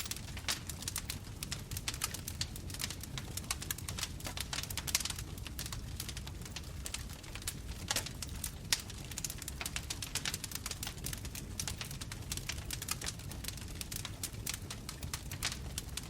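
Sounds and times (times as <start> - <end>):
burning wood popping and snapping: 0.0 - 16.0
low rumble of flames: 0.0 - 16.0.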